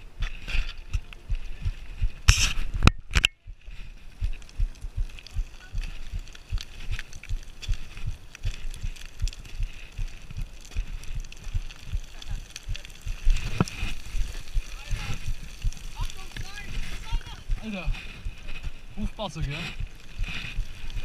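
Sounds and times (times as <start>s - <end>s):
footsteps on loose shale: 0.0s - 21.0s.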